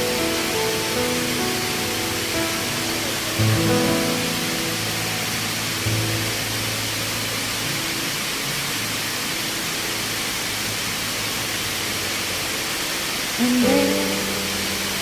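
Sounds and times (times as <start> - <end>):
water rushing down waterfall: 0.0 - 15.0.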